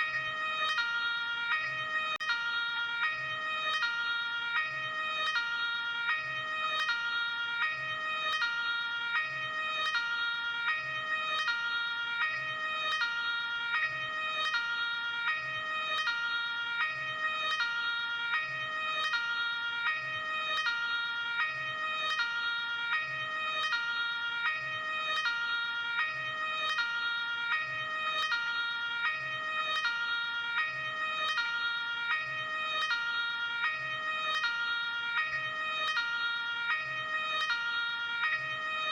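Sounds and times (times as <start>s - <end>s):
ambulance two-tone siren: 0.0s - 38.9s.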